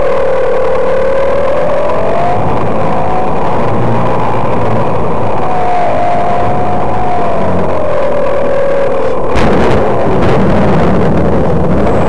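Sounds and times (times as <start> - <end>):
model airplane motor drone: 0.0 - 12.0
wind rush on microphone: 0.0 - 12.0.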